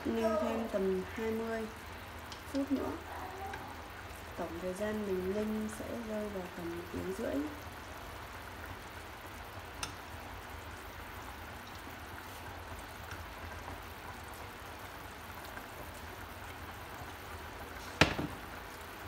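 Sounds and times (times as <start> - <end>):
pot simmering with bubbling: 0.0 - 19.0.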